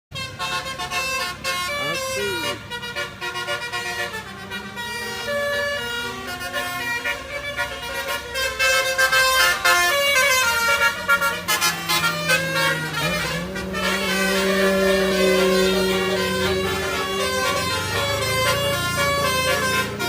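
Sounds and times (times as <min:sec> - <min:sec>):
musical air horns: 0:00.1 - 0:20.0.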